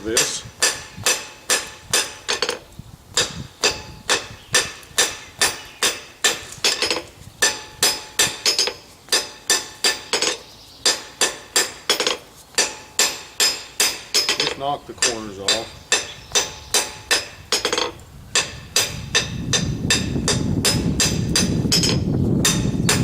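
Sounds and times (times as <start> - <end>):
hammer striking steel on anvil: 0.0 - 2.6, 3.2 - 23.0.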